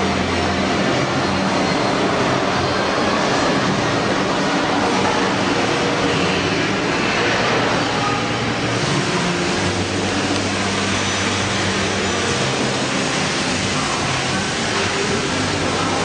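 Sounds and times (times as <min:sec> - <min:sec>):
hot-air fans hissing: 0:00.0 - 0:16.0
machine motors whirring: 0:00.0 - 0:16.0.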